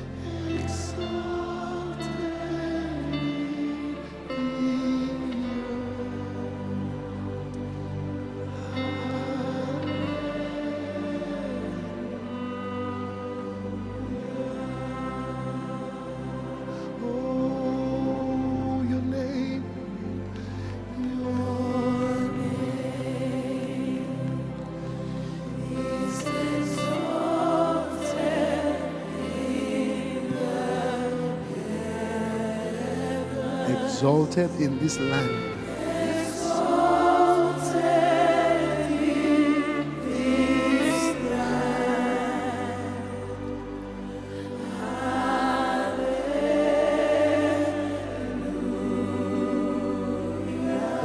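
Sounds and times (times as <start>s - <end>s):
held chords: 0.0s - 51.0s
sustained accompaniment: 0.0s - 51.0s
voices singing: 0.0s - 51.0s.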